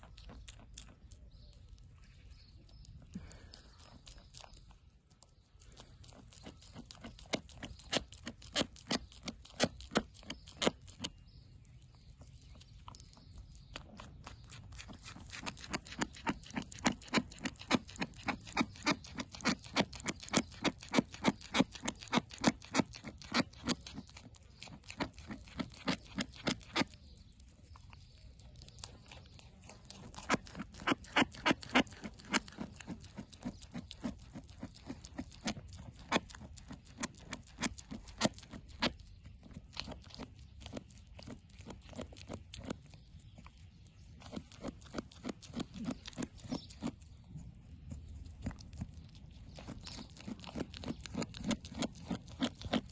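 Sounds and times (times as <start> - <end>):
goat chewing apple: 0.0 - 52.9.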